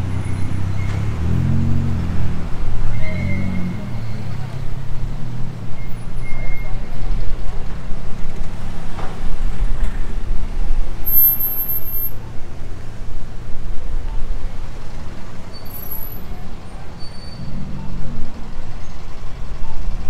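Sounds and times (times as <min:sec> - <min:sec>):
passing cars and heavy vehicles: 0:00.0 - 0:20.0.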